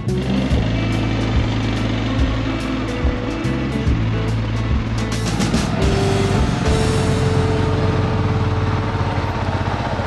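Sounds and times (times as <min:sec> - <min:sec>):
atv engine running: 0:00.0 - 0:10.0
background music: 0:00.0 - 0:10.0.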